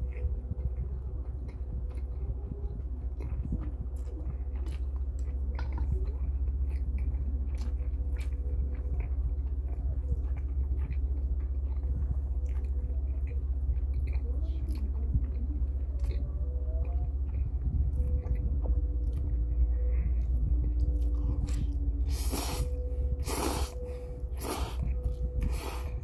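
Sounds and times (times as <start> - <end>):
steady low hum: 0.0 - 26.0
person chewing noodles: 3.2 - 26.0.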